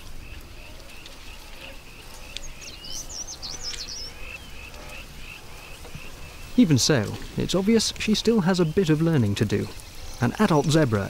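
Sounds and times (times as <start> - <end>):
bird twittering song: 0.0 - 11.0.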